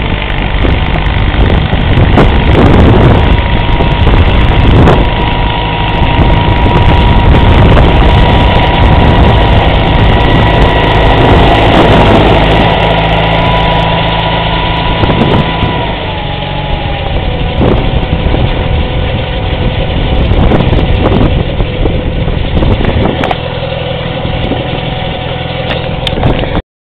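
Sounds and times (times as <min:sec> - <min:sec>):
high whine: 0:00.0 - 0:26.6
tractor engine and snowblower running: 0:00.0 - 0:26.6.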